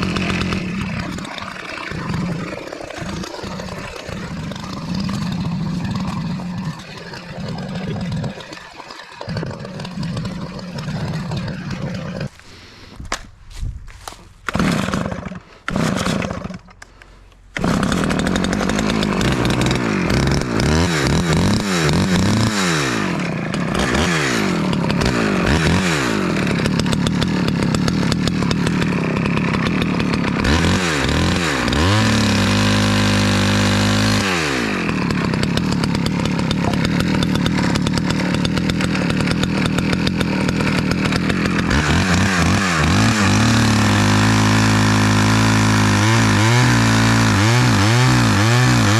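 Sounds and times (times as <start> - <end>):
chainsaw revving: 0.0 - 8.6, 9.2 - 12.8, 14.4 - 48.9.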